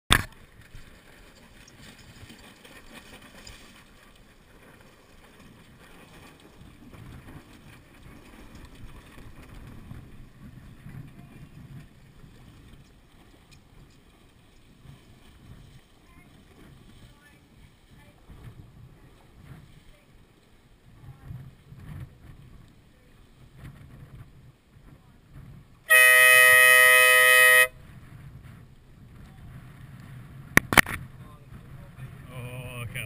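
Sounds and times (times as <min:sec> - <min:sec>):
water washing against boat hull: 0:00.1 - 0:33.0
wind noise on microphone: 0:05.6 - 0:33.0.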